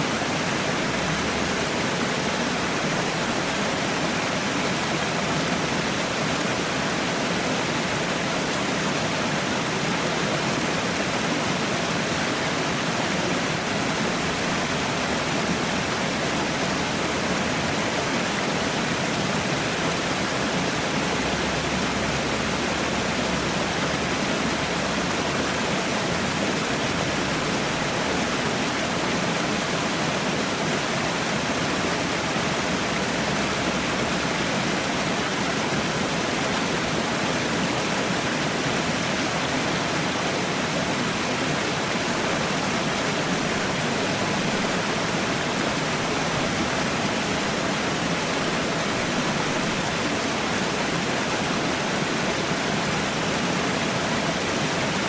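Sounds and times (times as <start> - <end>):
waterfall roar: 0.0 - 55.0.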